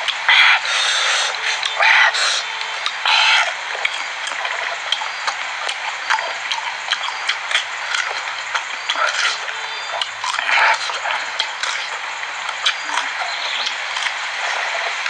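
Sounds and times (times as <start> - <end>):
person chewing wetly: 0.0 - 15.0
steady hiss: 0.0 - 15.0.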